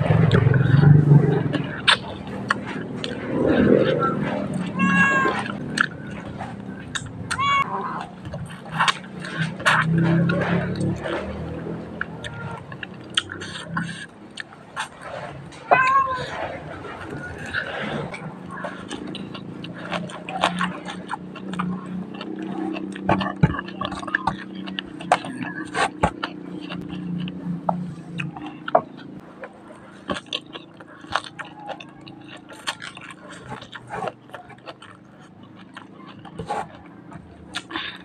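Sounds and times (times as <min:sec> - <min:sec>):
chewing with crunches: 0:00.0 - 0:38.0
wet mouth clicks: 0:00.1 - 0:04.8, 0:05.4 - 0:15.1, 0:16.9 - 0:38.0.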